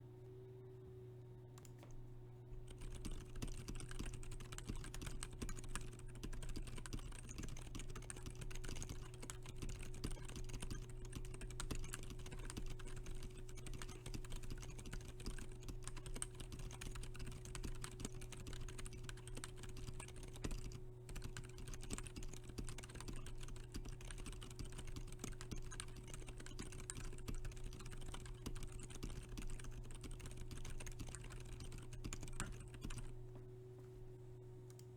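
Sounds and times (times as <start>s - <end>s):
steady low hum: 0.0s - 34.9s
fast typing on mechanical keyboard: 2.6s - 33.2s.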